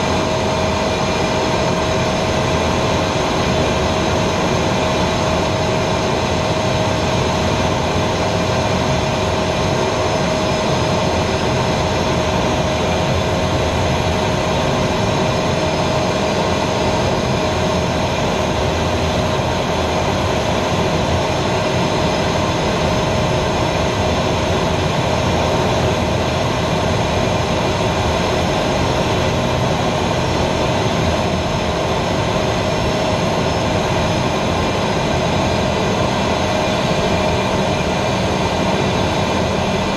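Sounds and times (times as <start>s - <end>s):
air rushing over canopy: 0.0s - 39.9s
constant whine: 0.0s - 39.9s
jet engine running: 0.0s - 39.9s.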